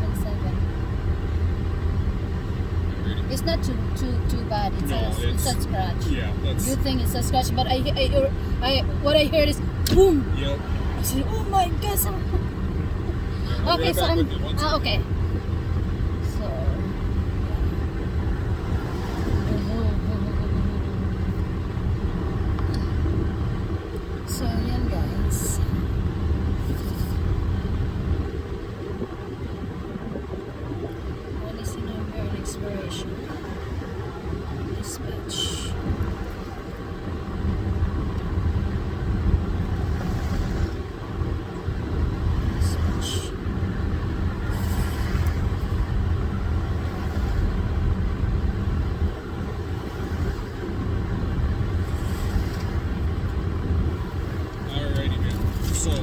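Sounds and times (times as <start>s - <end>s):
car rumbling: 0.0s - 56.0s.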